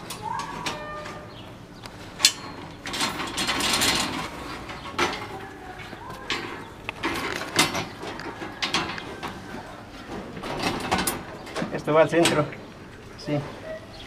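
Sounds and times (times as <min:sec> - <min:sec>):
wire twisting around steel bars: 0:00.0 - 0:11.5.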